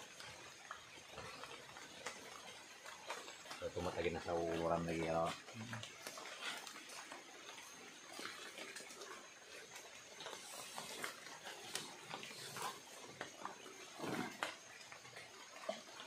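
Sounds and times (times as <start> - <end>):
small clicks and rustles: 0.0 - 16.0.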